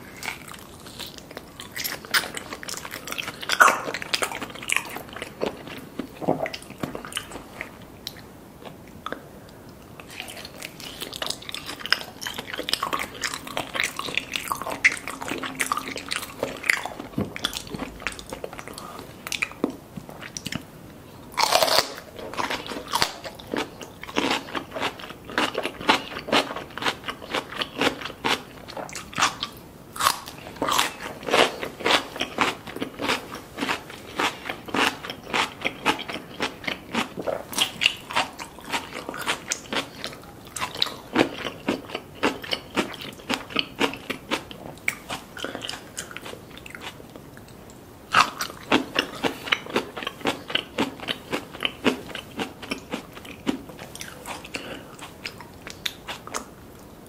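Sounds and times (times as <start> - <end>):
biting and chewing cucumber: 0.0 - 8.8, 10.0 - 20.7, 21.3 - 47.0, 48.1 - 56.5.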